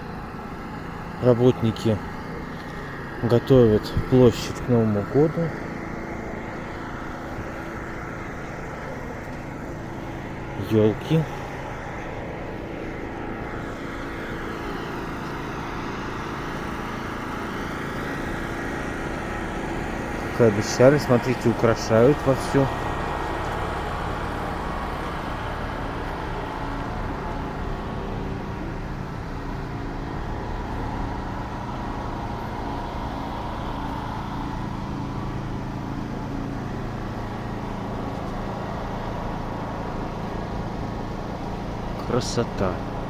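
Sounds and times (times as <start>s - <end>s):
steady outdoor hum: 0.0s - 43.0s
street noise: 0.0s - 43.0s
vehicle engine running: 0.0s - 43.0s.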